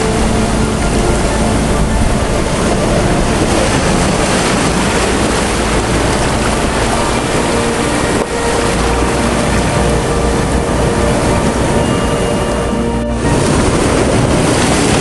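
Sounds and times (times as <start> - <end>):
heavy rain: 0.0 - 15.0
wind on microphone: 0.0 - 15.0.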